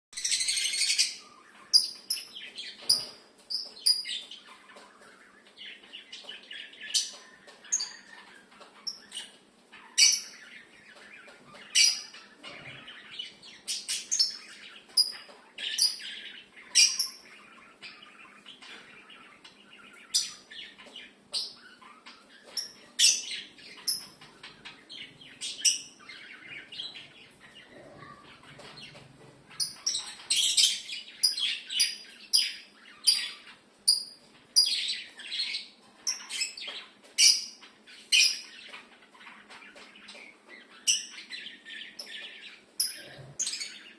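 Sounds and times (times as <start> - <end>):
lovebirds chirping: 0.2 - 43.9.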